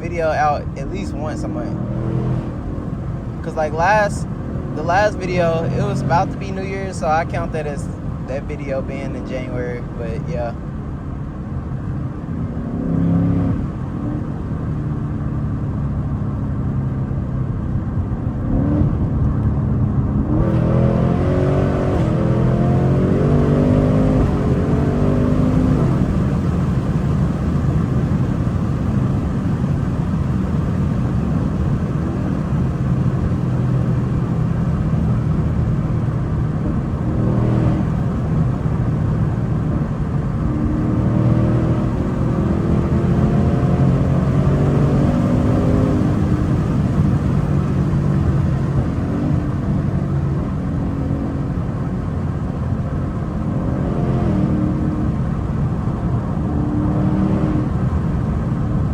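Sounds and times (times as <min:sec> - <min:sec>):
car engine accelerating: 0:00.0 - 0:58.9.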